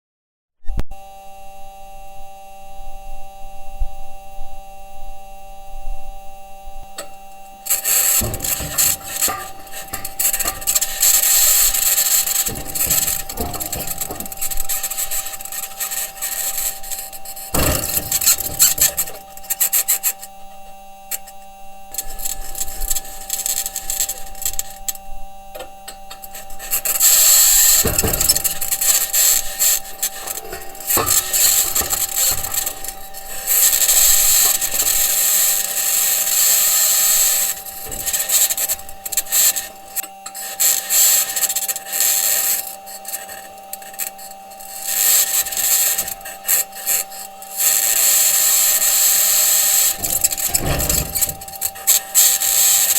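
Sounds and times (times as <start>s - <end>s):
high-pitched scratching: 7.0s - 20.4s, 21.1s - 25.0s, 25.6s - 52.9s
wheels grinding over rocks: 7.0s - 20.4s, 21.9s - 52.9s.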